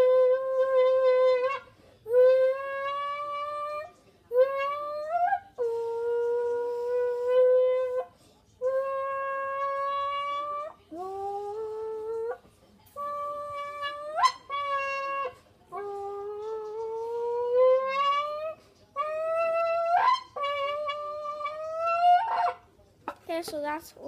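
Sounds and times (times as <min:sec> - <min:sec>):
blowing notes into plastic bottle: 0:00.0 - 0:12.4, 0:13.0 - 0:22.6.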